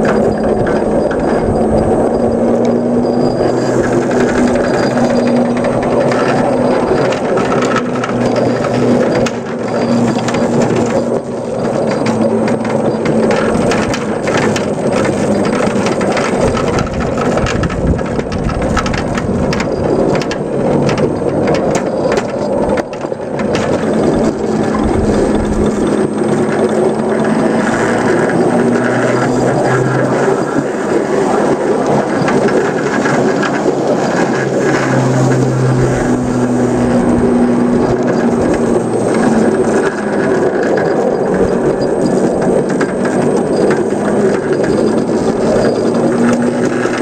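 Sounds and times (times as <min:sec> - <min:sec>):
locomotive drive hum: 0:00.0 - 0:47.0
model locomotive running: 0:00.0 - 0:47.0
small clicks and knocks: 0:00.0 - 0:47.0.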